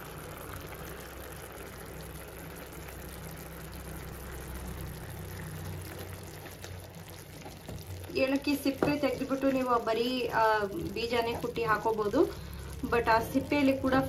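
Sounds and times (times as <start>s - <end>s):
mixture bubbling in a pan: 0.0s - 14.0s.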